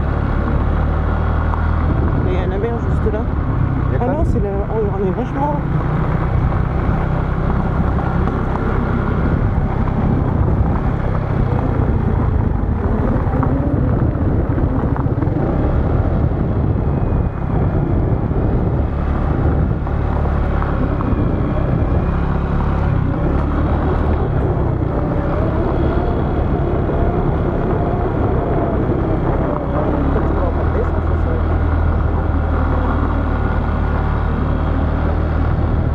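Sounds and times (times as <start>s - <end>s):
vehicle engine rumbling while driving: 0.0s - 35.9s.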